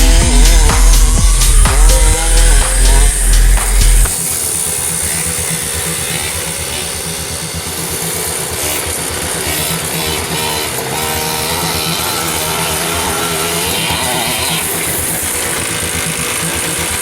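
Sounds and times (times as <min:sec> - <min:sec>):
small two-stroke engine running: 0:00.0 - 0:17.0.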